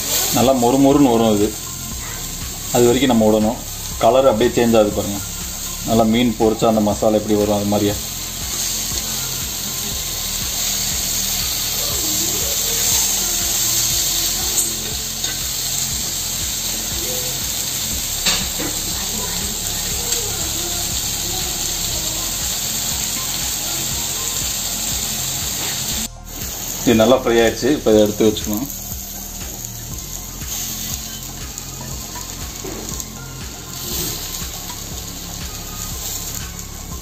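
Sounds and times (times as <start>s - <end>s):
fruit sizzling in a pan: 0.0s - 37.0s.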